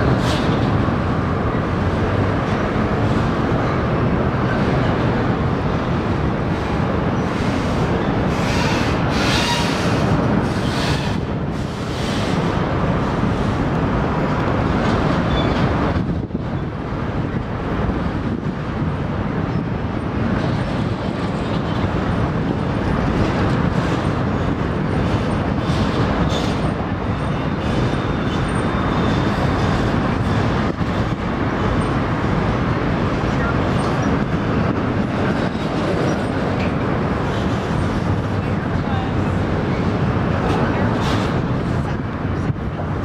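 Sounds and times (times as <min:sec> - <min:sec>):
train wheels on bridge rails: 0:00.0 - 0:43.0.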